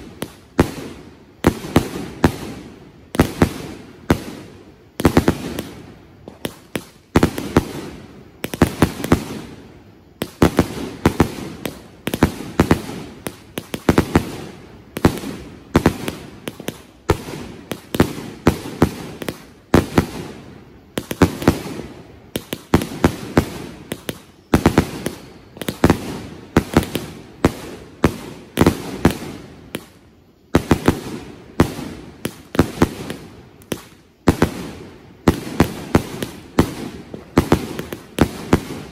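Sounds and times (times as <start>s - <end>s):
firework bangs: 0.0s - 38.9s.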